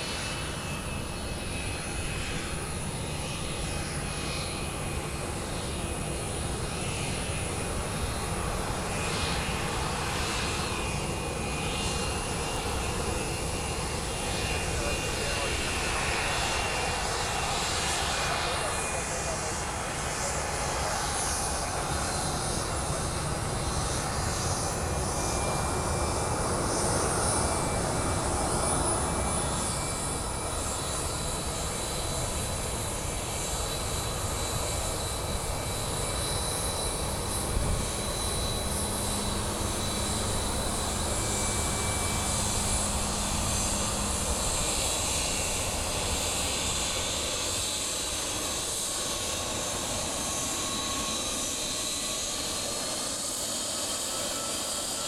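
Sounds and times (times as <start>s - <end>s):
jet engine roaring: 0.0s - 55.0s.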